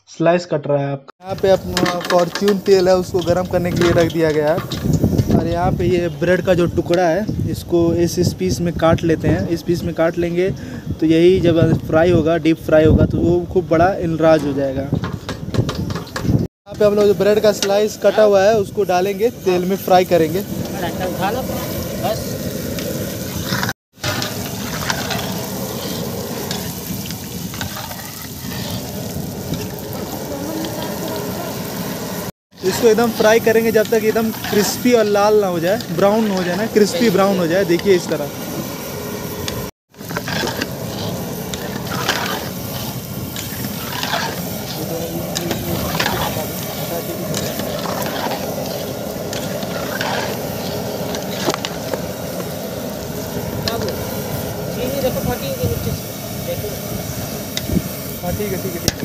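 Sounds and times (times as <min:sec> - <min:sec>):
bread sizzling in hot oil: 0:01.2 - 0:59.0.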